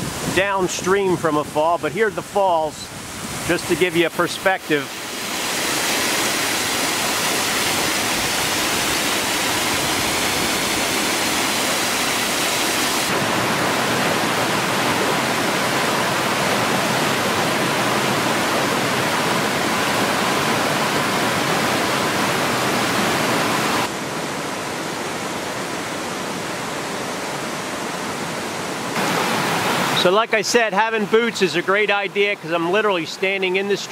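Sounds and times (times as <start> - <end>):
waterfall and stream rushing: 0.0 - 33.9.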